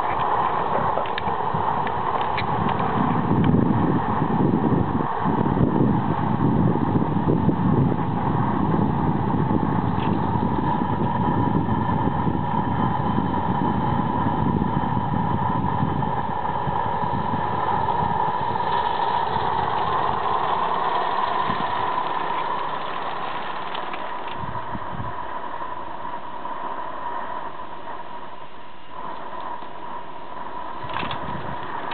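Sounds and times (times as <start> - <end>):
model steam locomotive hissing: 0.0 - 31.9.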